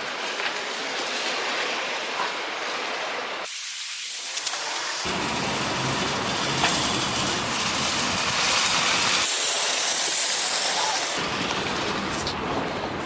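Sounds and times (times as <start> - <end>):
road and wind noise: 0.0 - 3.5, 4.3 - 13.0.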